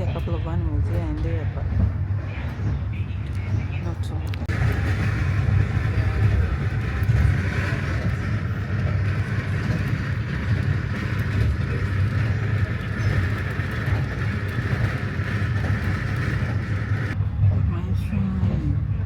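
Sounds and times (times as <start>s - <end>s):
train rumble inside coach: 0.0s - 19.0s.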